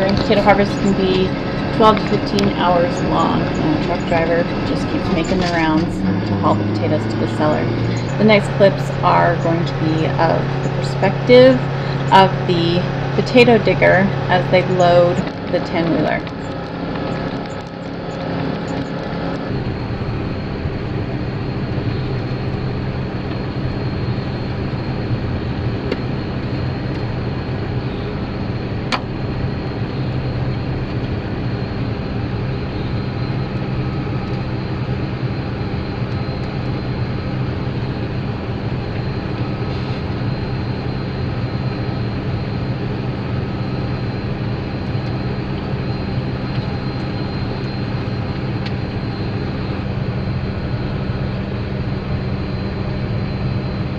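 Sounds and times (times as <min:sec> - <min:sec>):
harvester machinery drone: 0:00.0 - 0:53.9.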